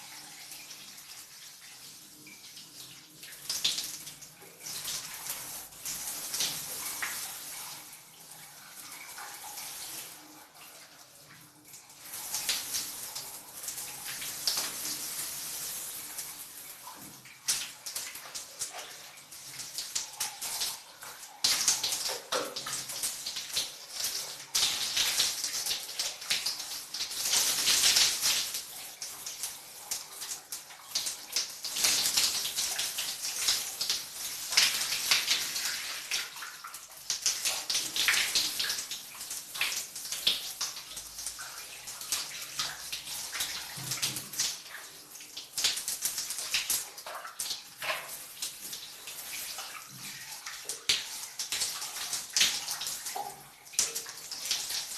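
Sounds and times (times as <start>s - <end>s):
shower water splashing: 0.0s - 54.9s.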